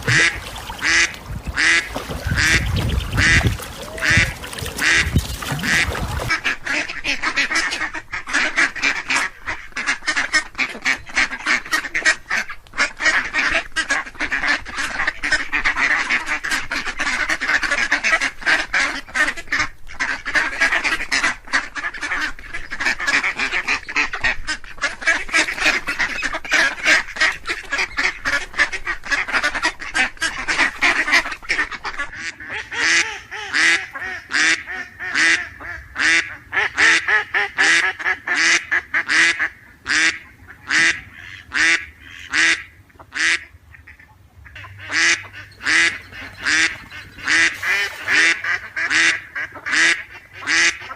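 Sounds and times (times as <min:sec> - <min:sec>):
ducks quacking: 0:00.0 - 0:50.9.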